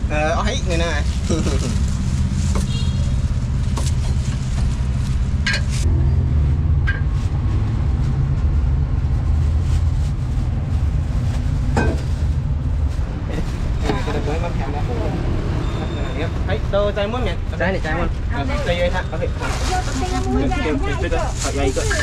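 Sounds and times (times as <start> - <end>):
engine rumbling: 0.0 - 22.0.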